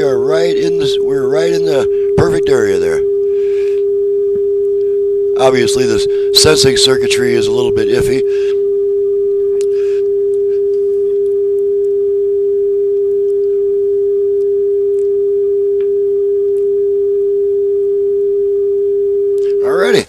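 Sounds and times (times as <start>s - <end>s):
steady test tone: 0.0s - 20.0s.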